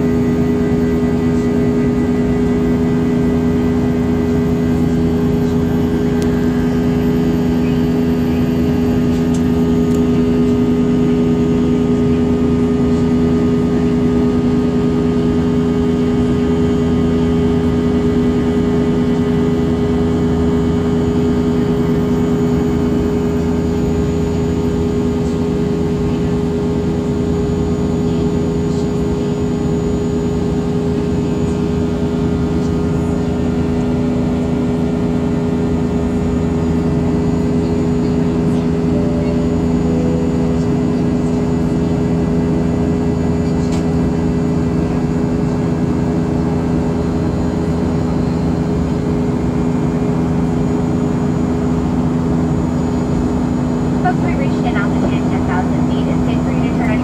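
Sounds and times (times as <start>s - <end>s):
jet engines in flight: 0.0s - 57.0s
low cabin hum: 0.0s - 57.0s.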